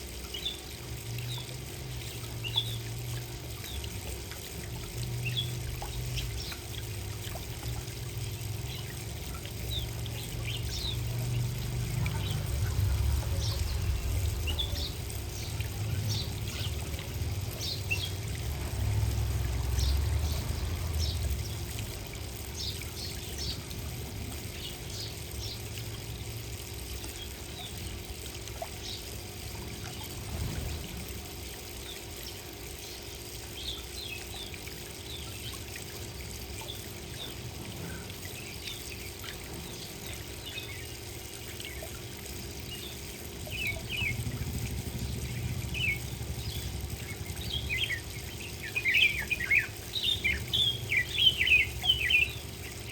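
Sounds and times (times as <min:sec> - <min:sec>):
small birds chirping: 0:00.0 - 0:25.9, 0:26.9 - 0:31.0, 0:31.8 - 0:52.9
trickle of water: 0:00.0 - 0:52.9.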